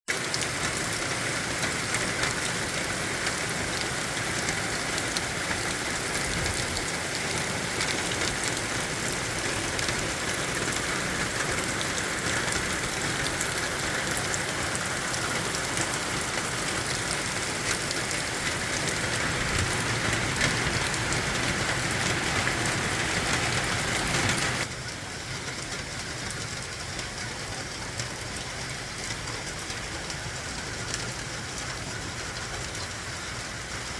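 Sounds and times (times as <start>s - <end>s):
steady rain with patter of drops: 0.1s - 33.9s.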